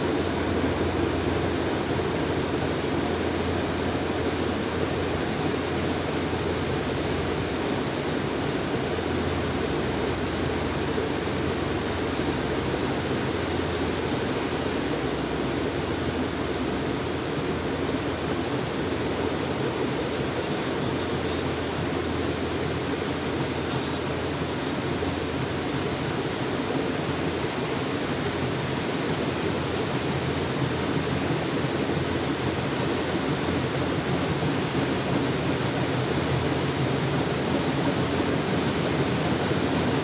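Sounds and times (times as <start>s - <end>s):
rail trolley running on track: 0.0s - 40.0s.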